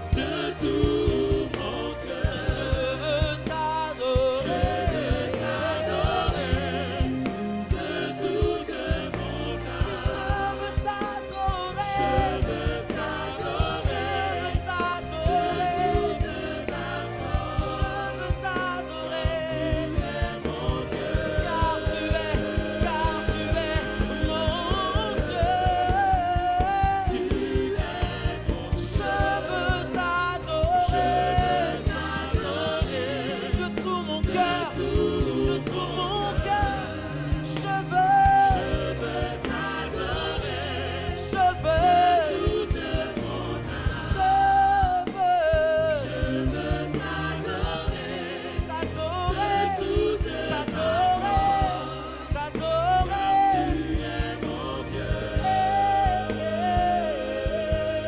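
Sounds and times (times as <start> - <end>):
band with steady beat: 0.0 - 58.0
voices singing with vibrato: 0.0 - 58.0.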